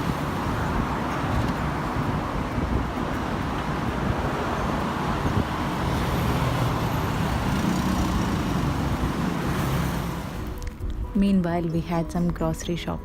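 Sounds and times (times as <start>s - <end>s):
road traffic rumble: 0.0s - 11.2s.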